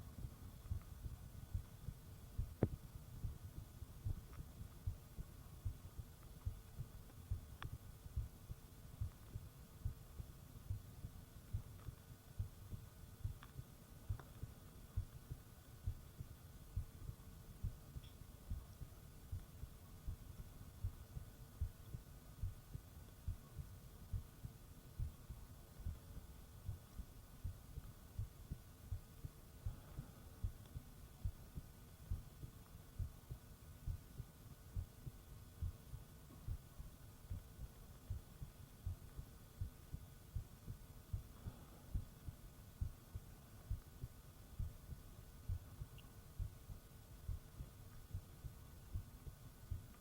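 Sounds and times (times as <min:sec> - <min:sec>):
faint hum: 0:00.0 - 0:50.0
heartbeat thumps: 0:00.0 - 0:50.0.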